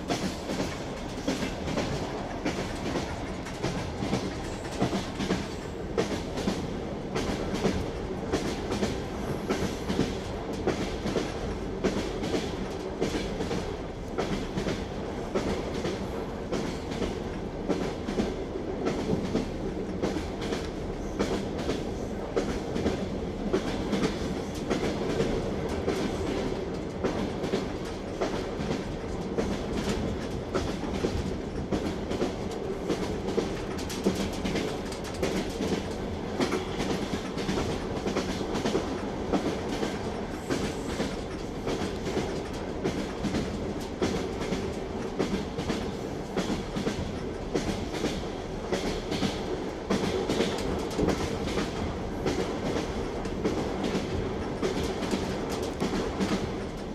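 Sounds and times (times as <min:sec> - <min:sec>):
railway carriage rumble and hum: 0:00.0 - 0:56.9
train wheels clattering over rail joints: 0:00.0 - 0:56.9.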